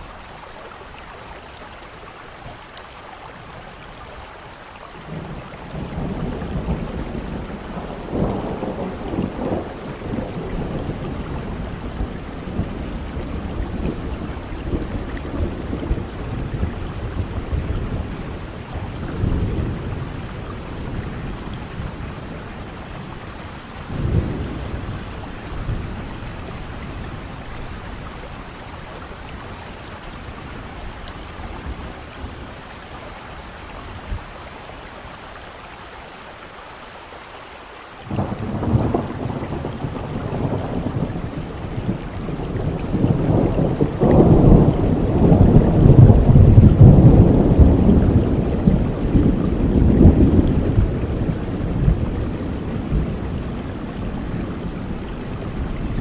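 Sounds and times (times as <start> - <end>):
steady rain: 0.0 - 56.0
rolling thunder: 5.0 - 33.1, 38.0 - 56.0.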